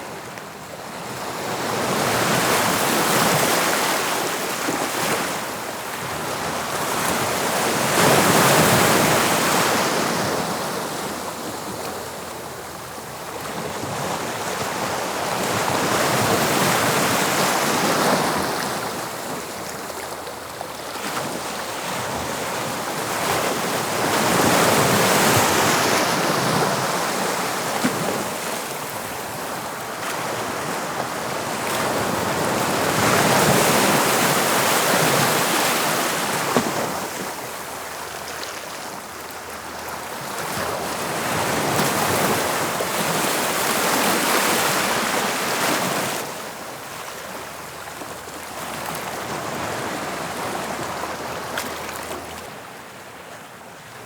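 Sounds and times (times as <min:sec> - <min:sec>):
sea waves breaking on shore: 0:01.0 - 0:54.0.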